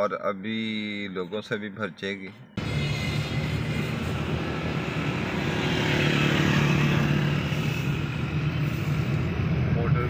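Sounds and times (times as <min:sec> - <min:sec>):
car engine hum: 0:01.0 - 0:10.0.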